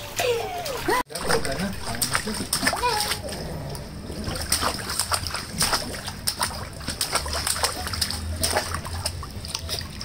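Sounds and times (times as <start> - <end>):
baby splashing water: 0.0 - 10.0.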